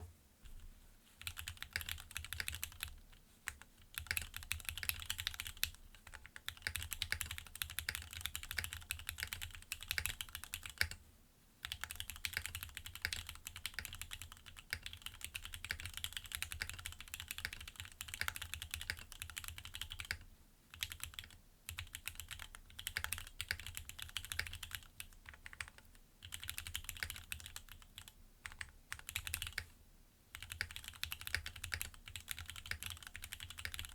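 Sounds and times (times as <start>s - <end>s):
fast mechanical keyboard typing: 1.2s - 2.9s, 3.5s - 11.0s, 11.6s - 29.6s, 30.4s - 33.9s.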